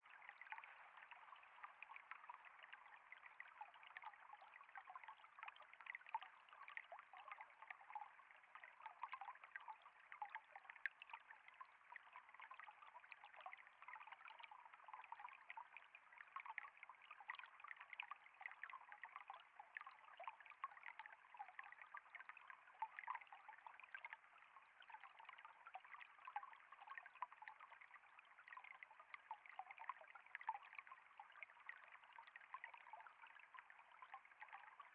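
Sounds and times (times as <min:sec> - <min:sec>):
water trickling: 0:00.0 - 0:34.9.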